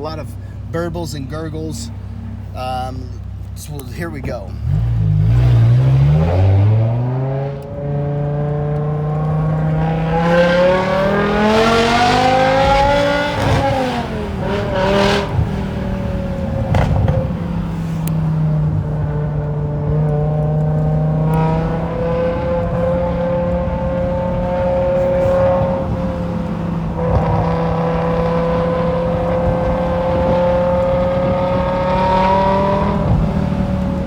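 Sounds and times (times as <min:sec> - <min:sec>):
car engine accelerating hard: 0:03.7 - 0:34.0.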